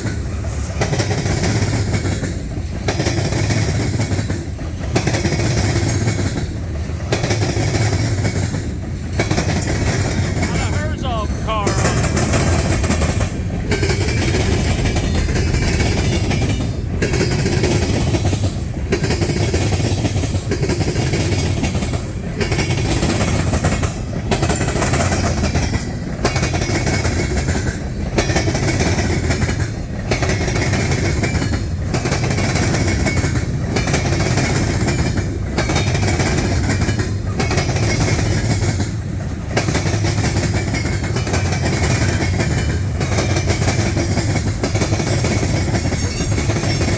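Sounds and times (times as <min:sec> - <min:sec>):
freight train cars rolling: 0:00.0 - 0:46.9
steel wheels clicking over rail joints: 0:00.0 - 0:46.9.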